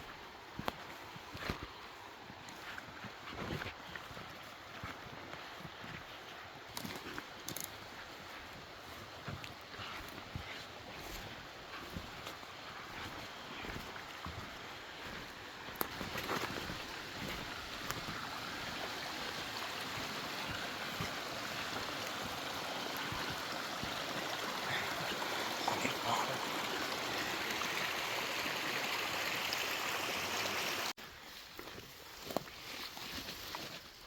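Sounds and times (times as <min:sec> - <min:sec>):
stream water running: 0:00.0 - 0:34.0.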